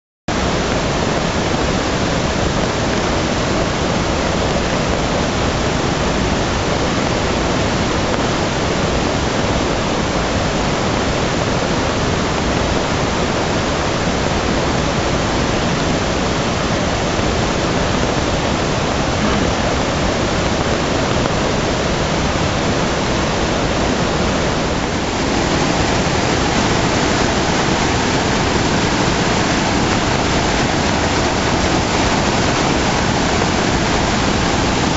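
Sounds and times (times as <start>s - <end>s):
rush of fast-flowing floodwater: 0.3s - 34.9s.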